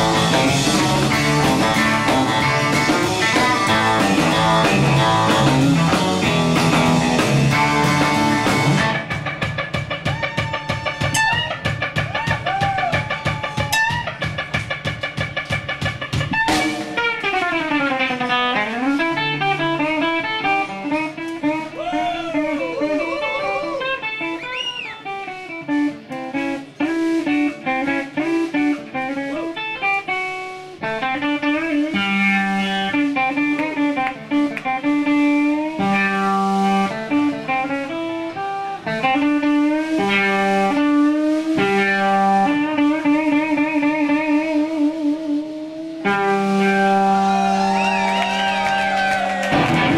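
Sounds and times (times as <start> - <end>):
twangy electric guitars: 0.0 - 47.6, 49.4 - 49.9
drums: 0.0 - 49.9.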